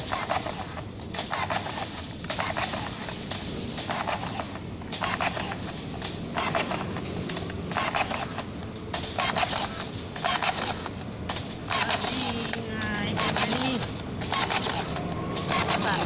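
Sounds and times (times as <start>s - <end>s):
rebar tying tool whirring and clicking: 0.0s - 16.0s.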